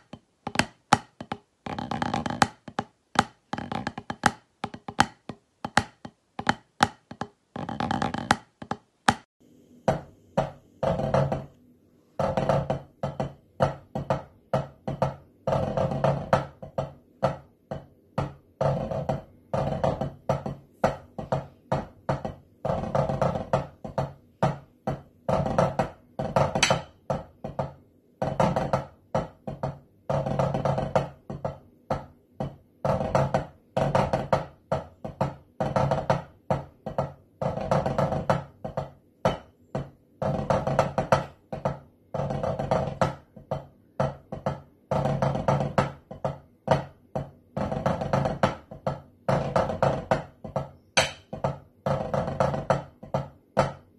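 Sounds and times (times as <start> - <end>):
snare drumming on practice pad: 0.0 - 11.5, 12.2 - 53.9.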